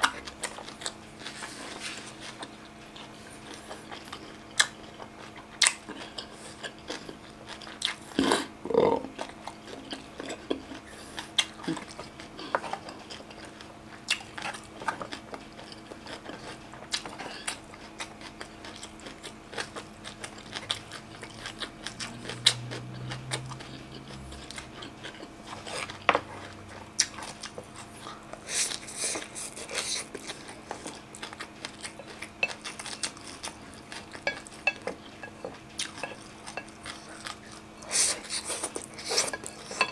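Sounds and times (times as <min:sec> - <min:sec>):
chewing and crunching food: 0:00.0 - 0:39.9
faint steady hum: 0:00.0 - 0:39.9.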